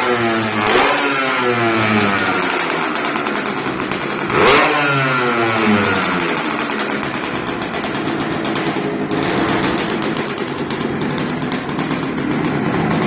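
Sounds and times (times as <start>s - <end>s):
moped two-stroke engine idling: 0.0s - 13.0s.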